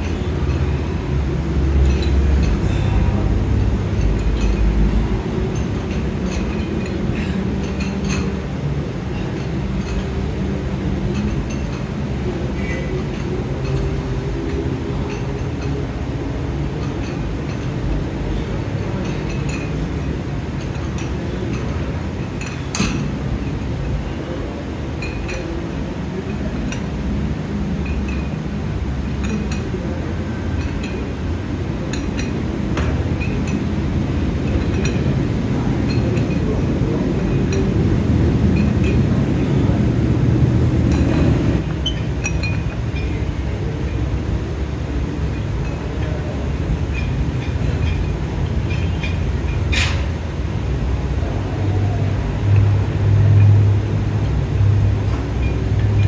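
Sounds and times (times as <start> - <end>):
weights clinking: 0.0 - 3.2, 3.8 - 16.1, 16.7 - 24.1, 25.0 - 25.7, 27.8 - 28.4, 31.8 - 44.2, 44.8 - 53.6.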